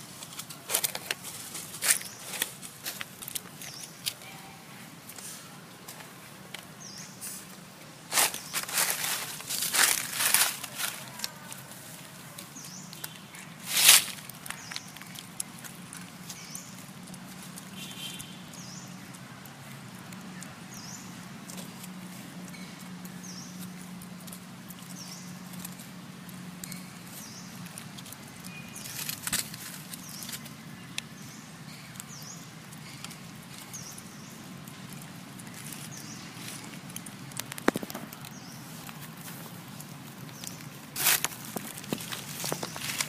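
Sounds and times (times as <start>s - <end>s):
dry leaves rustling and crackling: 0.0s - 43.0s.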